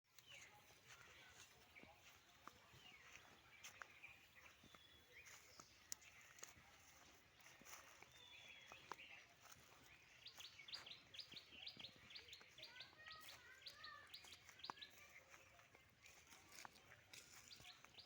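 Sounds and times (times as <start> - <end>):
small bird chirping: 0.1 - 18.0.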